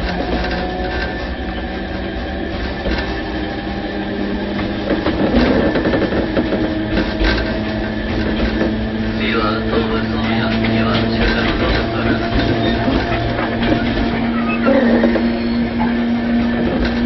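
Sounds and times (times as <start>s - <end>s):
train motor and gear hum: 0.0s - 17.0s
wheels clicking over rail joints: 0.0s - 17.0s.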